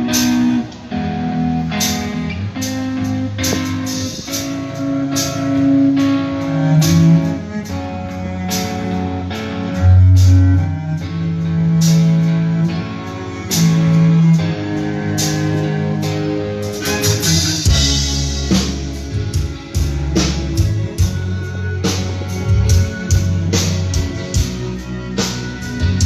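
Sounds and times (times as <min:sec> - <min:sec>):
heavy bass line: 0:00.0 - 0:26.0
strummed guitar: 0:00.0 - 0:26.0.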